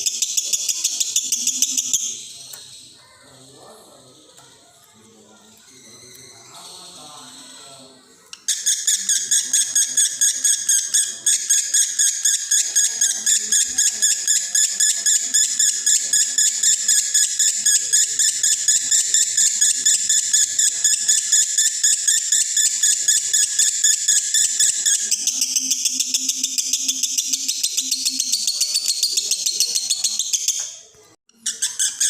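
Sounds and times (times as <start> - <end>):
lovebird chattering: 0.0 - 3.4, 8.4 - 30.8, 31.4 - 32.0.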